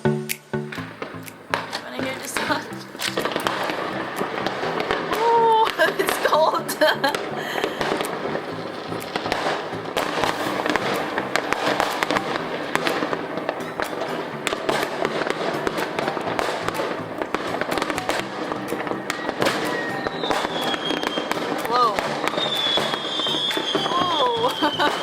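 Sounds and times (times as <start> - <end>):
firecrackers cracking and banging: 0.7 - 25.0.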